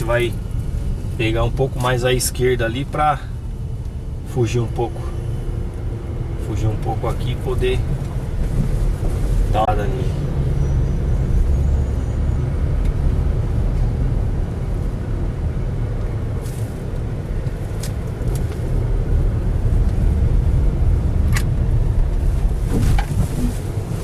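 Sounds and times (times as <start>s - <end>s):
engine and tyre rumble: 0.0s - 24.0s.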